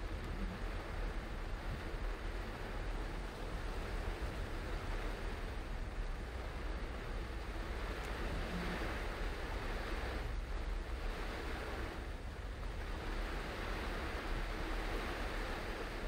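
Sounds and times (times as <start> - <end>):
low road rumble: 0.0 - 16.0
rain on a moving car: 0.0 - 16.0
tyres hissing on wet road: 0.0 - 16.0.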